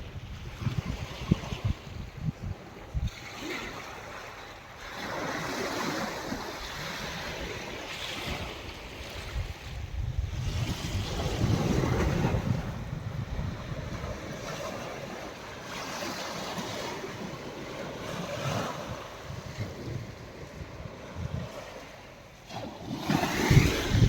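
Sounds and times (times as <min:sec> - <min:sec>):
sea waves breaking on beach: 0:00.0 - 0:24.0
wind buffeting microphone: 0:00.0 - 0:24.0.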